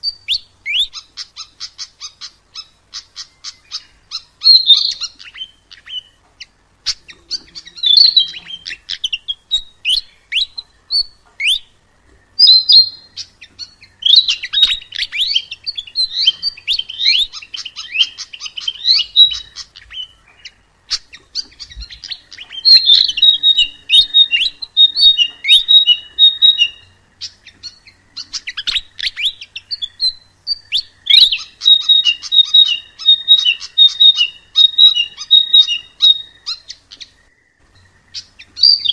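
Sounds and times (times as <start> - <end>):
flycatcher singing: 0.0 - 38.9.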